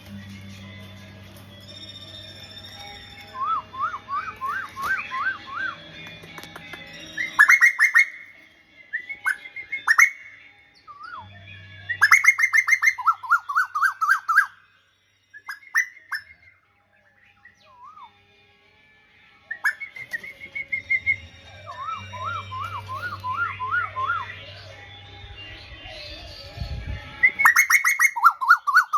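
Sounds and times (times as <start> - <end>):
songbird singing: 0.0 - 18.2, 19.5 - 28.9.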